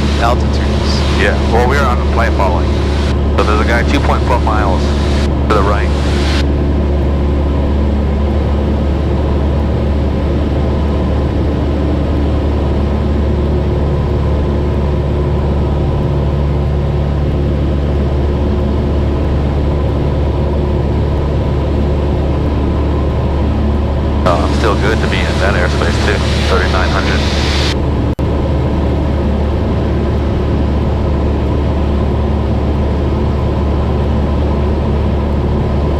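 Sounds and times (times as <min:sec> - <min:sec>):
airplane engine droning: 0:00.0 - 0:35.9.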